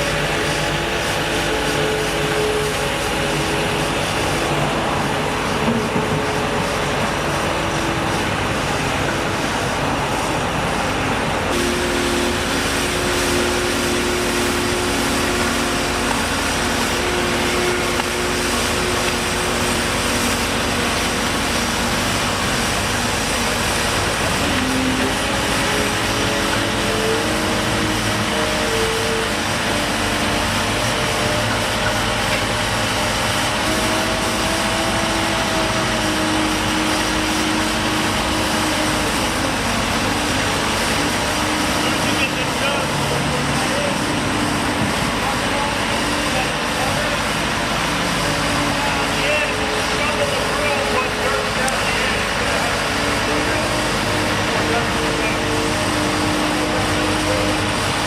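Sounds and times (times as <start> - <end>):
motor vehicle engines running: 0.0 - 58.0.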